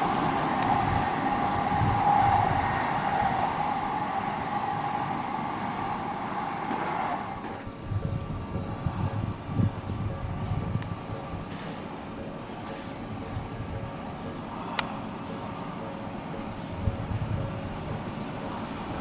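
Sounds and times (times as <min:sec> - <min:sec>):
cicadas droning: 0:00.0 - 0:19.0
train wheels thudding on track: 0:00.0 - 0:19.0.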